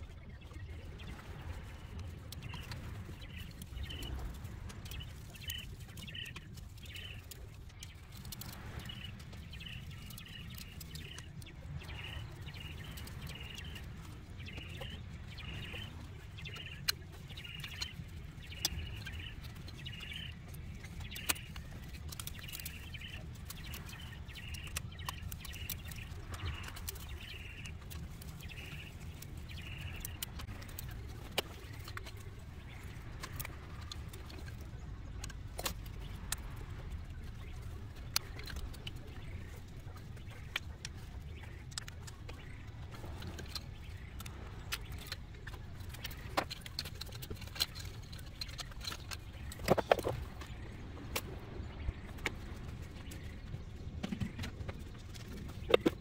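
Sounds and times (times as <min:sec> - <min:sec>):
bird chirping: 0:00.0 - 0:56.0
low background rumble: 0:00.0 - 0:56.0.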